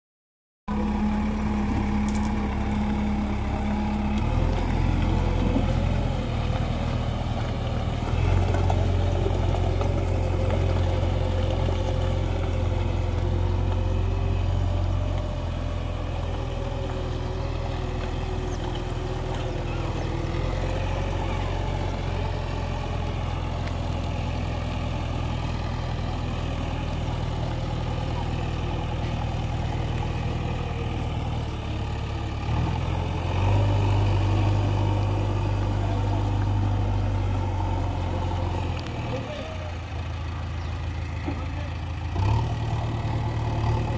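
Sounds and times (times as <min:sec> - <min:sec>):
diesel engine running: 0:00.7 - 0:43.9.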